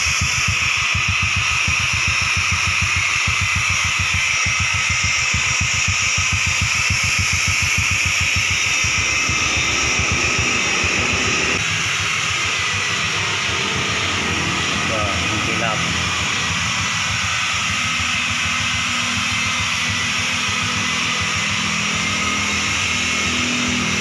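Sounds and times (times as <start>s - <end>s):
motorcycle engine idling: 2.5s - 24.0s.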